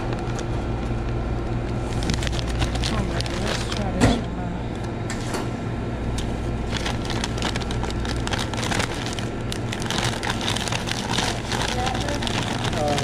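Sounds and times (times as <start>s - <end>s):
paper bags crinkling and rustling: 0.0s - 4.9s, 6.5s - 13.0s
steady low hum: 0.0s - 13.0s.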